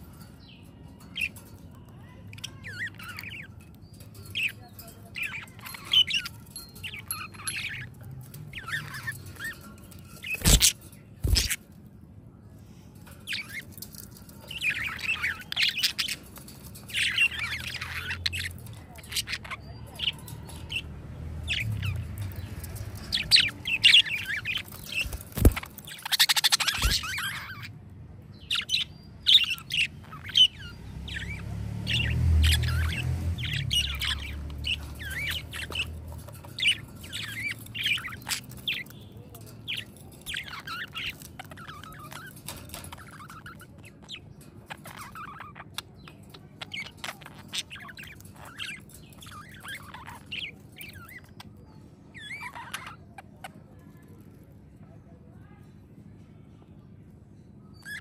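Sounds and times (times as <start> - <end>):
budgerigars chirping and warbling: 0.0 - 11.9, 12.9 - 58.0.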